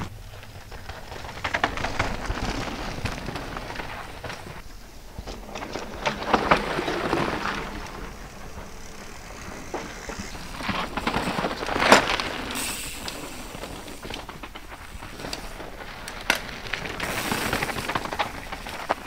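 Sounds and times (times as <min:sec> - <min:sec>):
bike clicks and rattles: 0:00.0 - 0:19.0
bike tyres crunching over dirt: 0:00.0 - 0:19.0.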